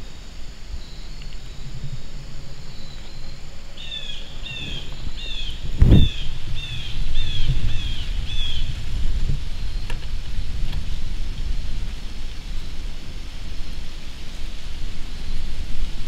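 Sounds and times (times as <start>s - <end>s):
low wind rumble on microphone: 0.0s - 16.0s.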